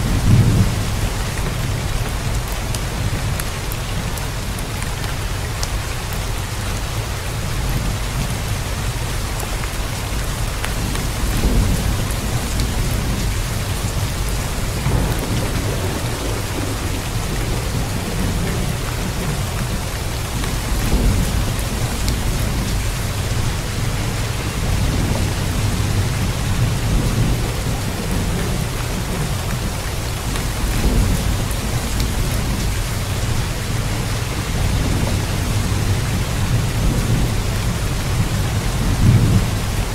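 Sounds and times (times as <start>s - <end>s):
rolling thunder: 0.0s - 3.4s, 10.6s - 39.9s
heavy rain: 0.0s - 39.9s.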